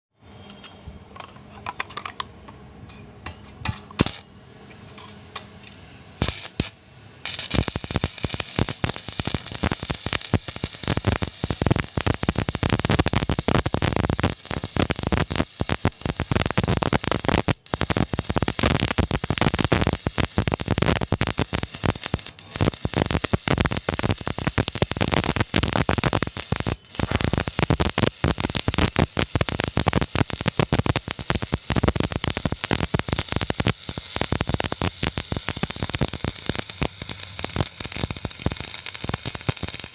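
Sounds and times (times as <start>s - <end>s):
welding arc crackling: 3.6s - 39.9s.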